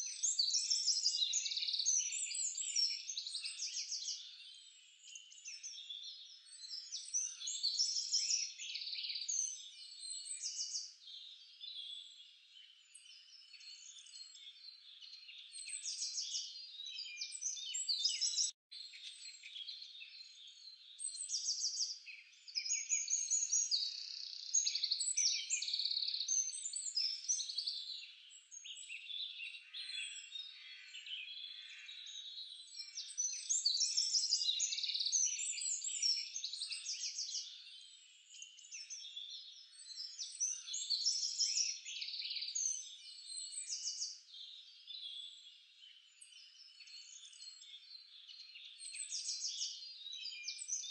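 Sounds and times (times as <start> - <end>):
birds singing and chirping: 0.0 - 50.9.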